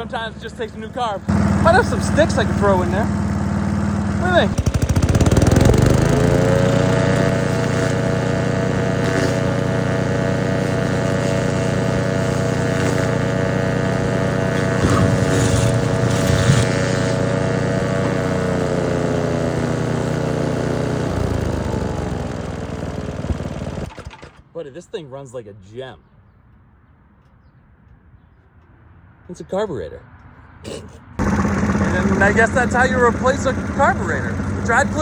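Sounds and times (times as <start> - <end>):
wood chipper engine running: 0.0 - 24.4, 31.2 - 35.0.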